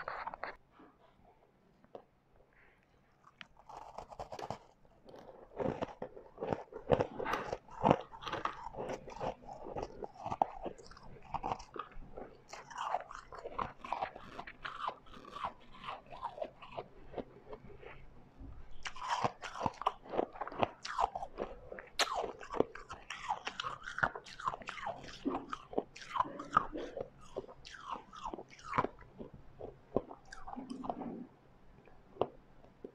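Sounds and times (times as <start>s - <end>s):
ice being chewed: 3.2s - 32.9s.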